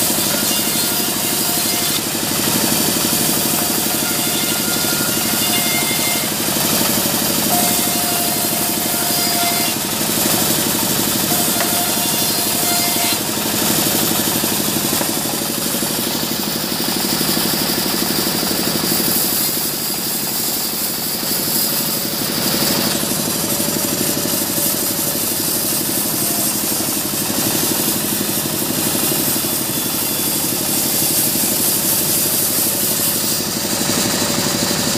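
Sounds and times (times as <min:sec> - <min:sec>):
band saw cutting wood: 0:00.0 - 0:34.9.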